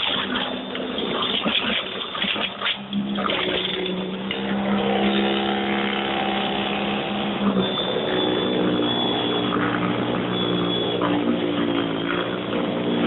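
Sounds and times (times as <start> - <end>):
snowblower electric motor hum: 0.0 - 13.0.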